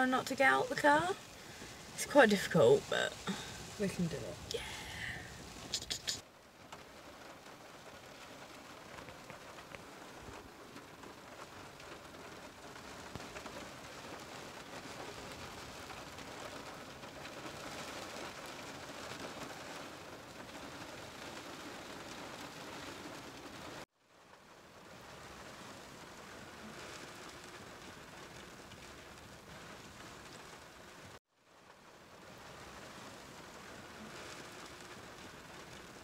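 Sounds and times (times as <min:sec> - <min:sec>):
rain on a car: 0:00.0 - 0:36.0.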